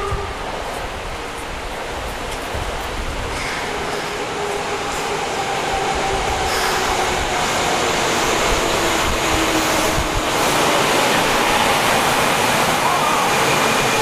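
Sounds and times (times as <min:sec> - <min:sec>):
subway train pulling in: 0:00.0 - 0:14.0.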